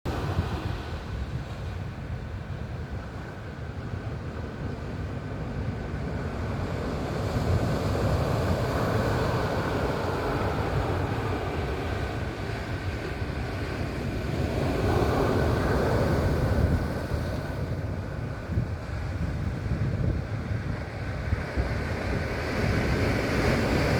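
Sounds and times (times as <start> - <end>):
ocean surf breaking on beach: 0.1 - 23.9.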